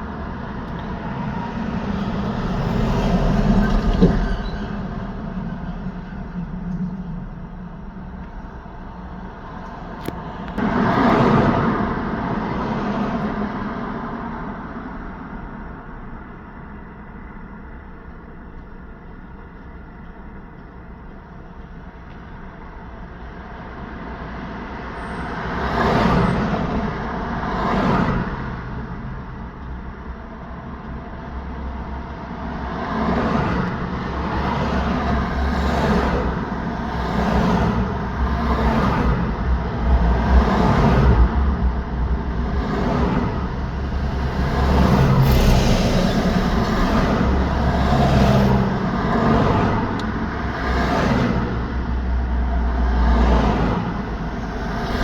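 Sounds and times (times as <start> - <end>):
vehicles passing by: 0.0 - 16.7, 23.7 - 55.0
low traffic rumble: 0.0 - 55.0.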